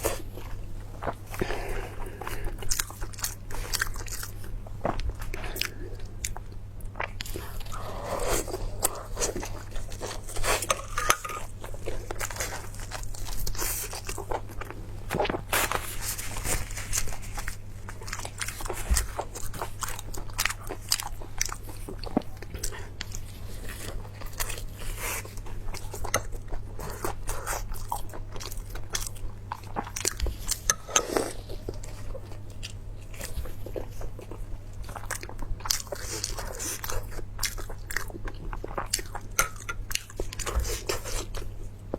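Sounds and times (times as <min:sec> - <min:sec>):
low electrical hum: 0:00.0 - 0:41.9
person chewing crunchy food: 0:00.0 - 0:41.9.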